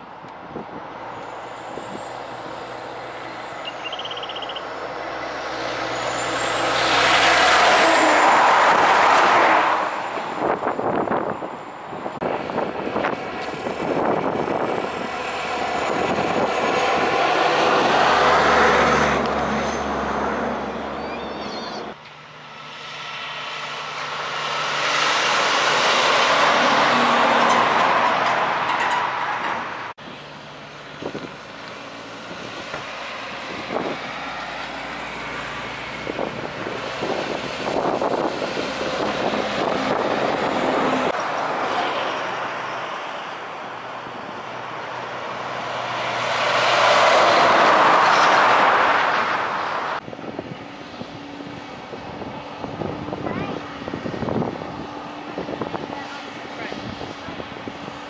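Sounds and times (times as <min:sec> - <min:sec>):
trucks driving past: 0:00.0 - 0:58.0.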